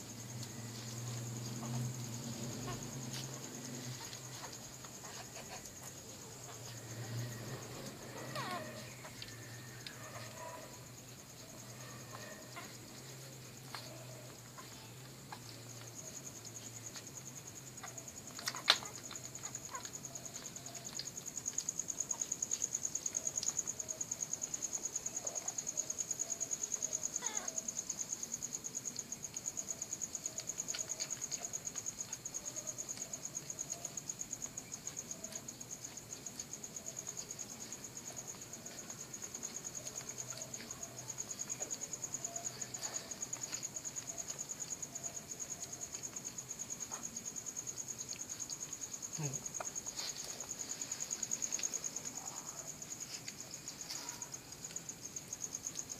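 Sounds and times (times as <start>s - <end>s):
high-pitched insect trill: 0.0s - 55.9s.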